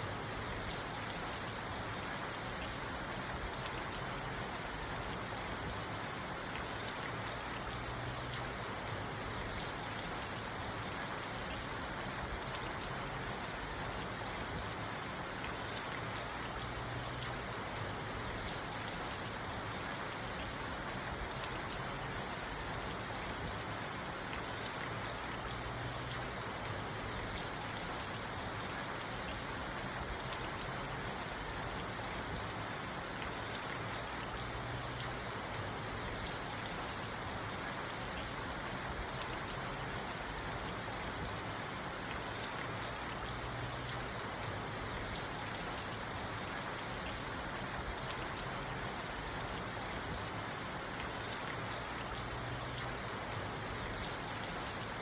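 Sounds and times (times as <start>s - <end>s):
rain falling on a car: 0.0s - 55.0s.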